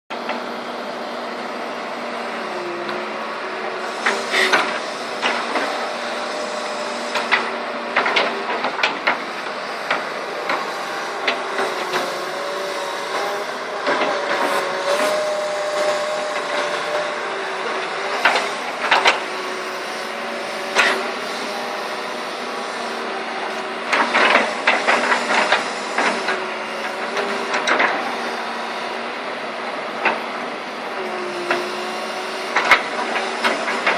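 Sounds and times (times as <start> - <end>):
excavator running: 0.1 - 33.9.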